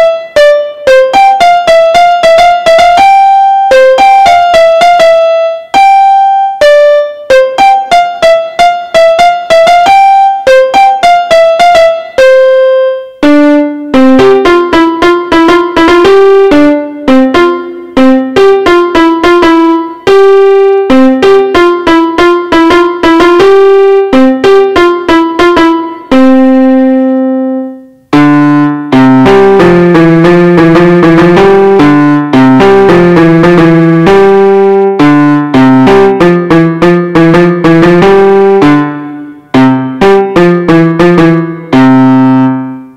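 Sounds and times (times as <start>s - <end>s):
keyboard piano melody: 0.0s - 42.9s.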